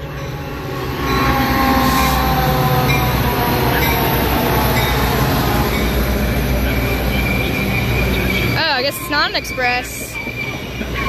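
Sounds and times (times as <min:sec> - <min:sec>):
diesel train rumbling past: 0:00.0 - 0:11.0.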